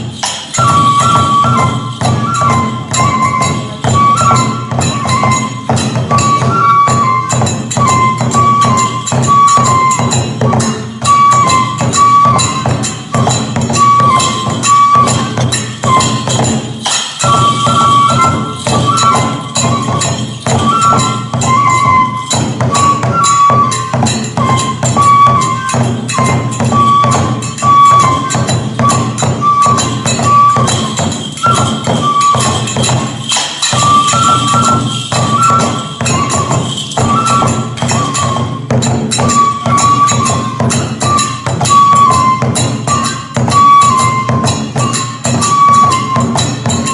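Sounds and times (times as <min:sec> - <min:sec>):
fast drum beats: 0:00.0 - 0:46.9
high flute melody: 0:00.0 - 0:46.9
ringing hand cymbals: 0:00.0 - 0:46.9.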